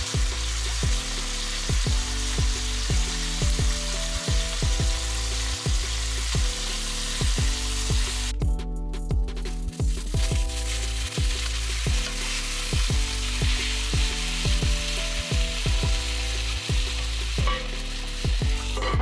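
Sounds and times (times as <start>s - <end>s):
food sizzling in a pan: 0.0s - 8.4s, 9.7s - 19.0s
music with deep beat: 0.0s - 19.0s.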